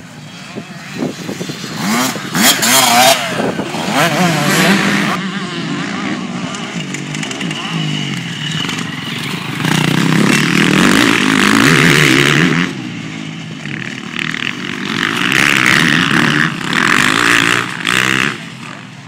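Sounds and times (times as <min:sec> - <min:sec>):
dirt bike engines revving past: 0:00.0 - 0:19.0.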